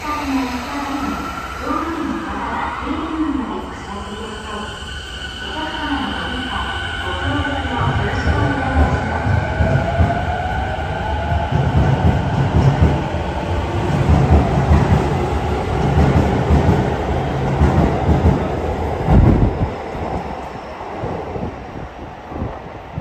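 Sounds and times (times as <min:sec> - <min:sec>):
electric train rumbling and rattling: 0:00.0 - 0:23.0.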